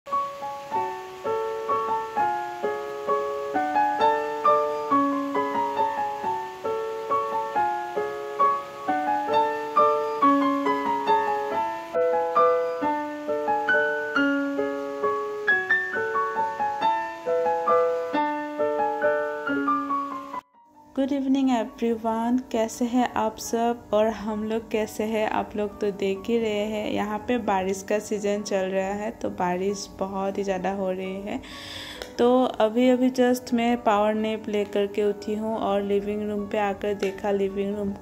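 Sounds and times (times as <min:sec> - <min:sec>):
piano playing: 0:00.1 - 0:38.0.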